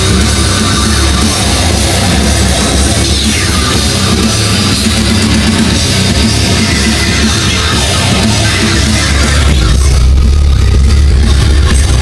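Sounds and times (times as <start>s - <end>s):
deep bass: 0.0s - 12.0s
heavy metal music: 0.0s - 12.0s.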